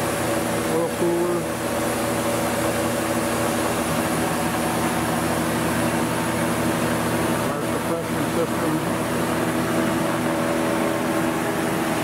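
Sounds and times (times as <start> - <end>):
machine hum with steady tones: 0.0 - 12.0.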